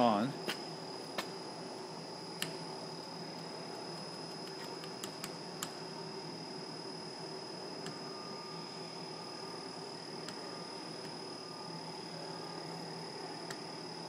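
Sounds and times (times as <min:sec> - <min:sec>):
lathe humming with high whine: 0:00.0 - 0:14.0.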